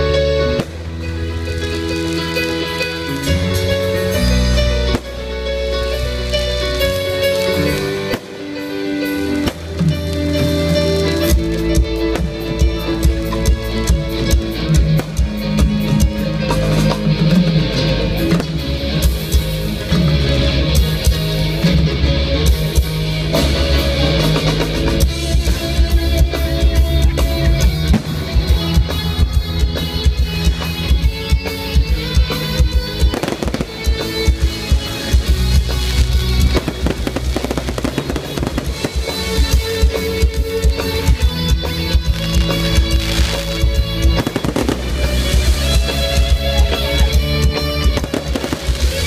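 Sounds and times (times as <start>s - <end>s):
loud music: 0.0s - 49.0s
fireworks bursting and crackling: 0.4s - 16.0s, 22.7s - 49.0s.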